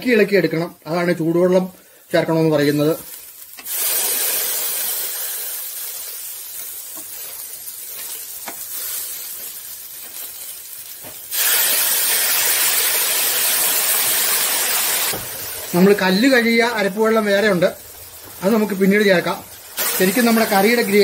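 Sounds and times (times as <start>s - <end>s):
paste sizzling in hot oil: 1.3s - 21.0s.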